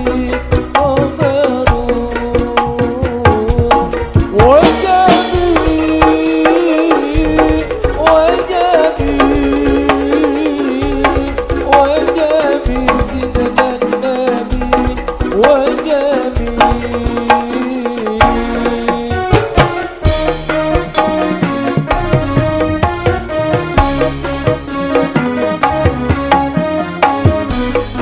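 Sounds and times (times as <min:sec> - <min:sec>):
hand drums and jingles: 0:00.0 - 0:28.0
wavering melody line: 0:00.0 - 0:28.0.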